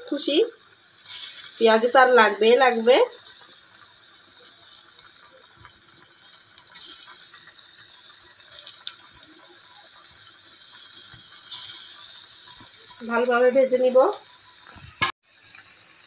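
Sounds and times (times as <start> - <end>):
fritters sizzling in hot oil: 0.0 - 16.0.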